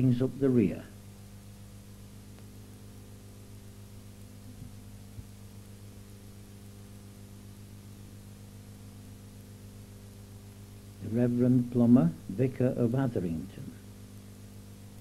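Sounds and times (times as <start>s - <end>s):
electrical hum: 0.0s - 15.0s
faint hiss: 0.0s - 15.0s.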